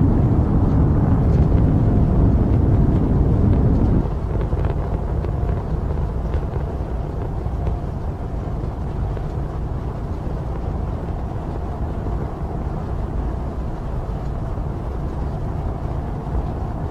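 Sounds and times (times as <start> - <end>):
rocket engine roar: 0.0 - 16.9.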